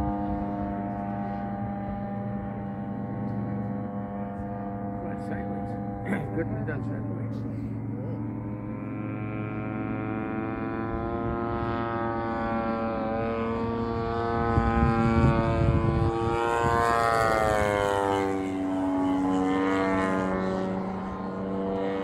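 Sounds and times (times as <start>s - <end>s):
gusty low rumble: 0.0s - 18.0s
model airplane engine flying overhead: 0.0s - 22.0s.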